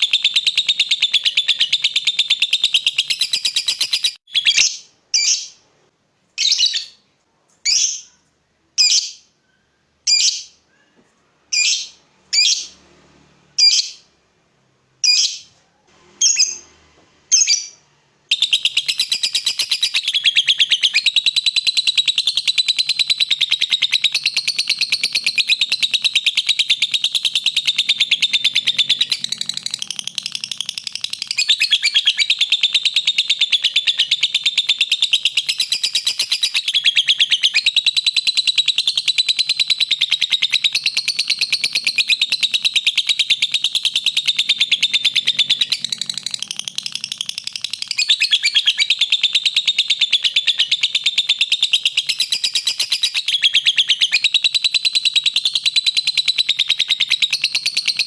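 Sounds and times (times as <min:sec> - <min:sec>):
lovebird chattering: 0:00.0 - 0:05.6, 0:06.4 - 0:07.0, 0:07.7 - 0:08.2, 0:08.8 - 0:09.3, 0:10.0 - 0:10.6, 0:11.5 - 0:12.8, 0:13.6 - 0:14.1, 0:15.0 - 0:15.5, 0:16.2 - 0:16.6, 0:17.3 - 0:58.0.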